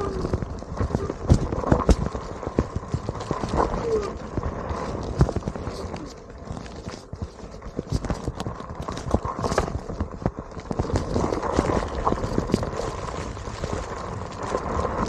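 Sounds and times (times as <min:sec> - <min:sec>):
wheel rolling over gravel: 0:00.0 - 0:15.0.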